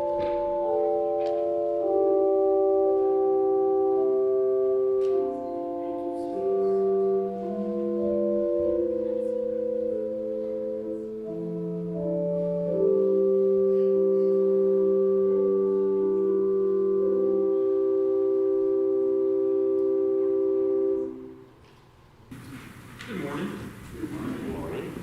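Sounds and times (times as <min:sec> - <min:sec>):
organ playing sustained chords: 0:00.0 - 0:21.6.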